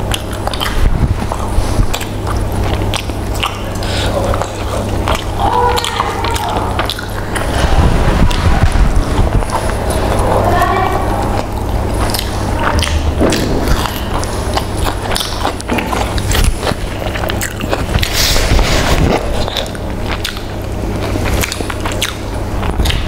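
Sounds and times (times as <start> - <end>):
wet mouth clicks: 0.0 - 7.5, 11.3 - 23.0
fingers pulling at meat: 0.0 - 10.4, 11.2 - 23.0
chewing fried chicken: 0.0 - 23.0
steady low hum: 0.0 - 23.0.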